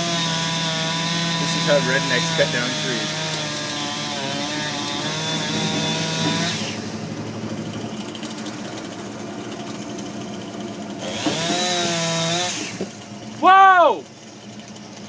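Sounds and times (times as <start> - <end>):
two-stroke chainsaw running: 0.0 - 15.0.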